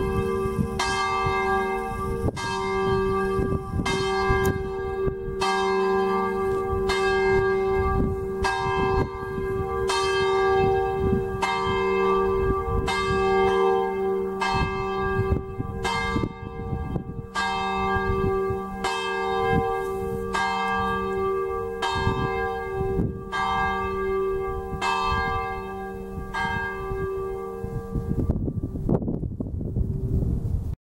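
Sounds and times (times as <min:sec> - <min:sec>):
church bells pealing: 0:00.0 - 0:28.3
wind rumbling on microphone: 0:00.0 - 0:30.8.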